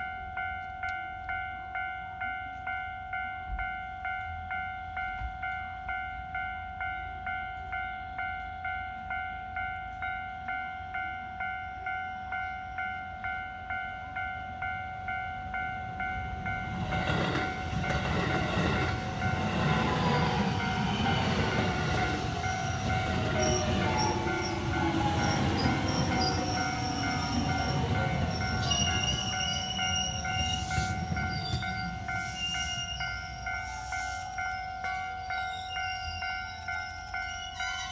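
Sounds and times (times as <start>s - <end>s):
level crossing bell ringing: 0.0s - 37.9s
train rumble and wheel clatter: 0.0s - 37.9s.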